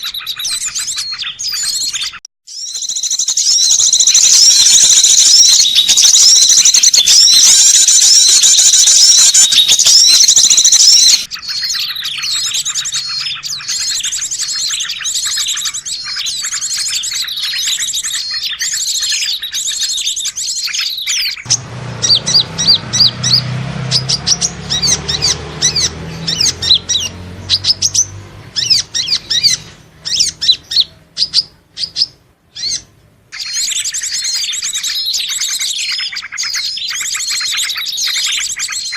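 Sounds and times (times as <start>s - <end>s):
recorded songbird chirping: 0.0s - 38.9s.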